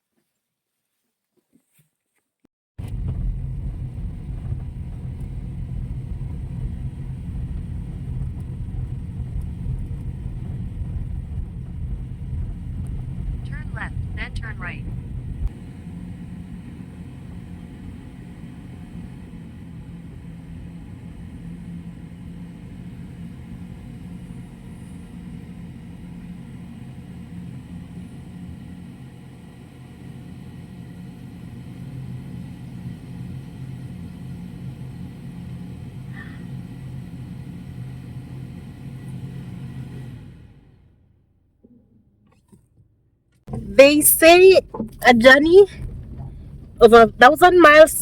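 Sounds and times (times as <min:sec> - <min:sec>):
car engine and road noise: 0:02.8 - 0:48.0.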